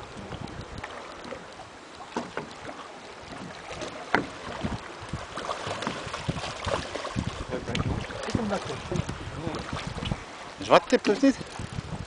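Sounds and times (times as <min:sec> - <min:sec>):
wind on microphone: 0:00.0 - 0:01.7, 0:02.6 - 0:12.0
water splashing and sloshing: 0:00.0 - 0:12.0.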